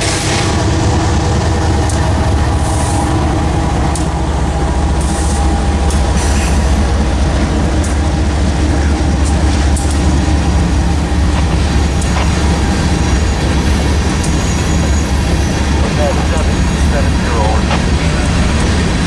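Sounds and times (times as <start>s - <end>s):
locomotive engine drone: 0.0s - 19.0s
moving train rumble: 0.0s - 19.0s.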